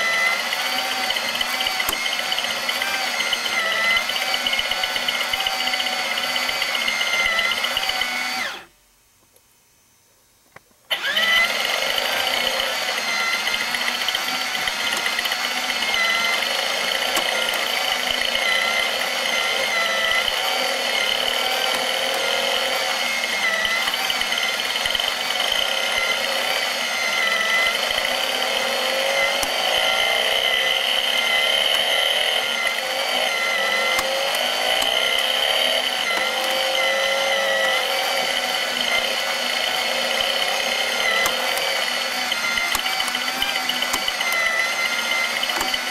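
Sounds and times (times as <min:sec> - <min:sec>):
small electric motor whining: 0:00.0 - 0:08.7, 0:10.9 - 0:45.9.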